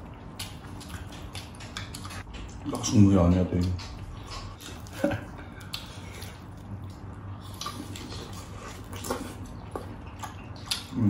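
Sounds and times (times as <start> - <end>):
low steady hum: 0.0 - 11.0
wet chewing sounds: 0.0 - 11.0.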